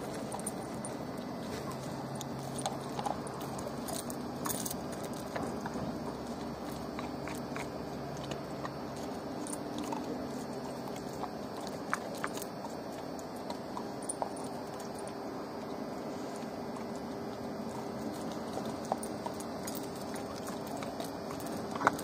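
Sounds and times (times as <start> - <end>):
dog crunching bones: 0.0 - 22.0.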